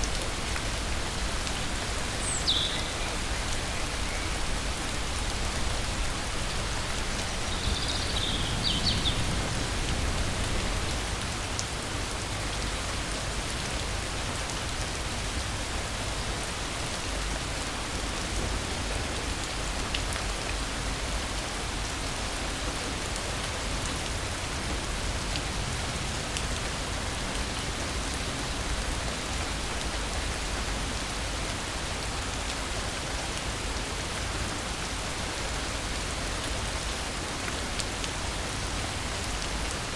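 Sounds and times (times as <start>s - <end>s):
rain on leaves and ground: 0.0s - 39.9s.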